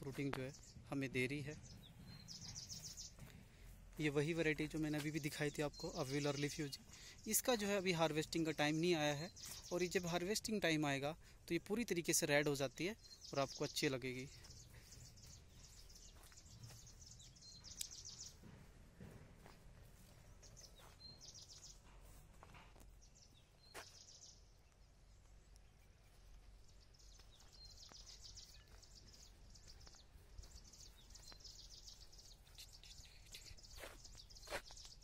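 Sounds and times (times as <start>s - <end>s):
small birds trilling and chirping: 0.0s - 35.0s.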